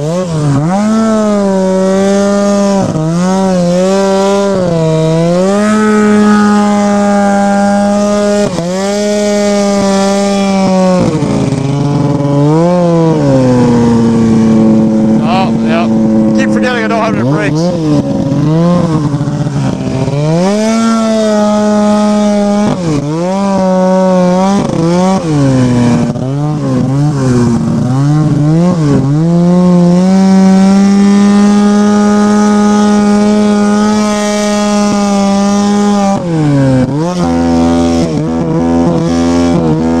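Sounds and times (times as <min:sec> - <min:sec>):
snowmobile engine revving: 0:00.0 - 0:40.0.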